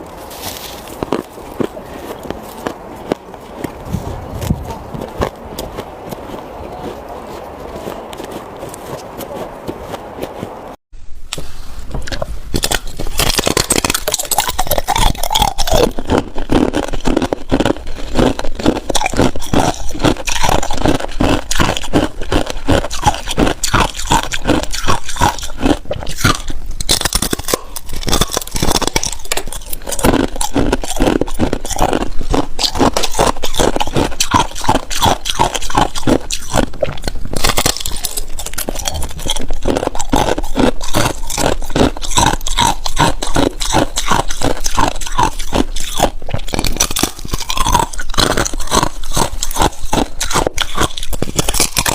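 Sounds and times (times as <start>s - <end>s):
ice crunching between teeth: 0.0s - 10.6s, 11.3s - 51.9s.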